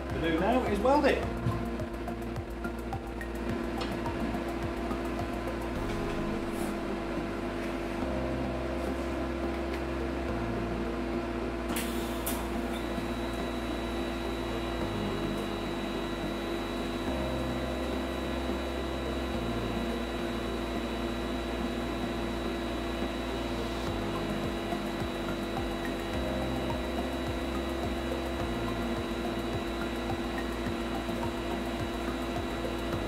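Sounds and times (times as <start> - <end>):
welding arc whine: 0.0 - 33.0.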